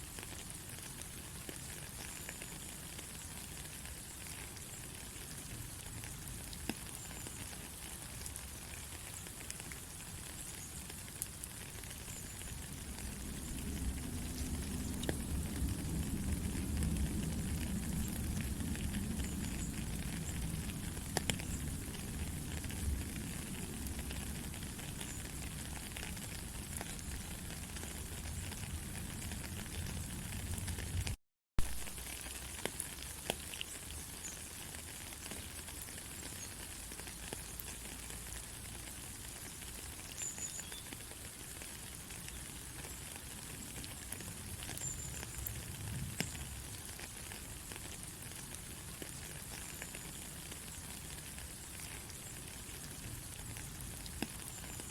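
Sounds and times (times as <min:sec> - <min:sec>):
rain hiss: 0:00.0 - 0:54.9
ticking raindrops: 0:00.0 - 0:54.9.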